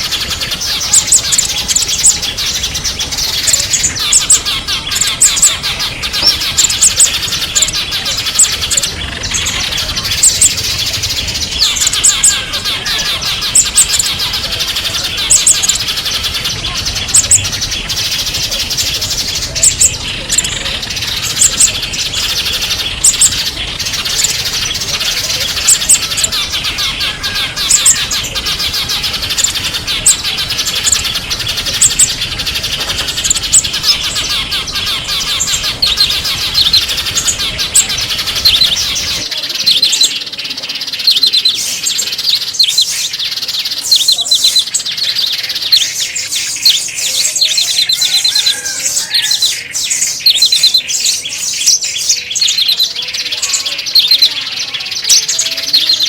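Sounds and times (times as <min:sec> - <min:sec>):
high paired bird notes: 0:00.0 - 0:56.0
low background noise: 0:00.0 - 0:56.0
songbirds chirping and twittering: 0:00.0 - 0:56.0.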